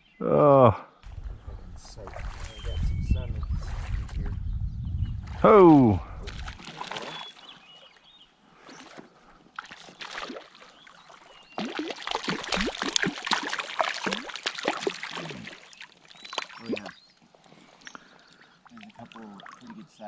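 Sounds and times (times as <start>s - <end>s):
water splashing and sloshing: 1.0s - 4.4s, 5.2s - 20.0s.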